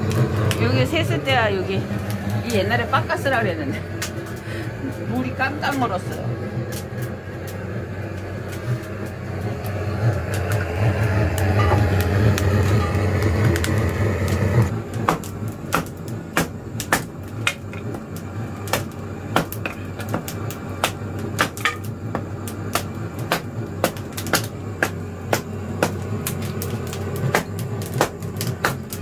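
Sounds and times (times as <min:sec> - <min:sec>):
firewood crackling and popping: 0:00.0 - 0:29.0
steady low hum: 0:00.0 - 0:29.0.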